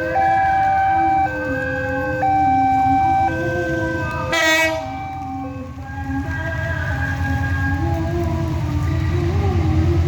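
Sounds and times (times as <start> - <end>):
diesel locomotive engine throbbing: 0.0 - 10.0.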